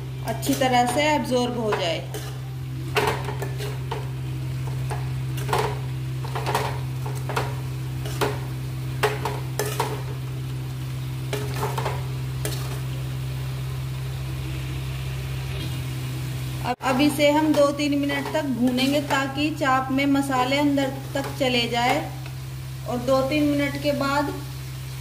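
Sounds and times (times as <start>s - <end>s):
steady low hum: 0.0s - 24.0s
faint sizzle: 0.0s - 25.0s.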